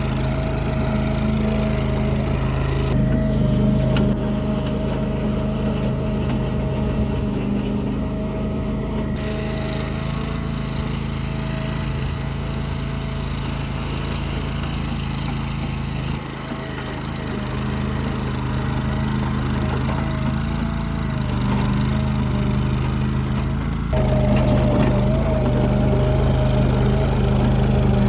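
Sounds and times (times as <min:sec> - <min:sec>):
small dozer engine running: 0:00.0 - 0:28.0.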